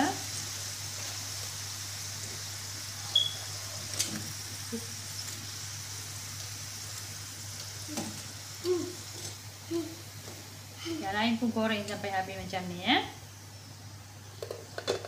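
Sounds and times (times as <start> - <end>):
oil sizzling in pan: 0.0 - 15.0.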